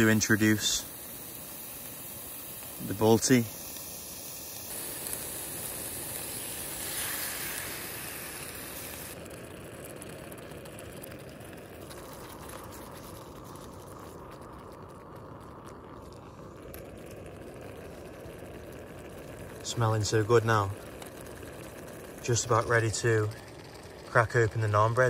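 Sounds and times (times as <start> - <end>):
beef sizzling in a pan: 0.0 - 24.8
sauce bubbling simmer: 0.0 - 25.0.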